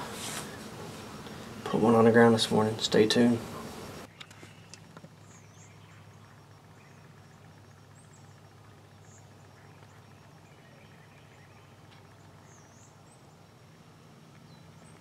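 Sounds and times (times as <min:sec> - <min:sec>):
steady low hum: 0:00.0 - 0:15.0
small birds chirping: 0:00.2 - 0:15.0.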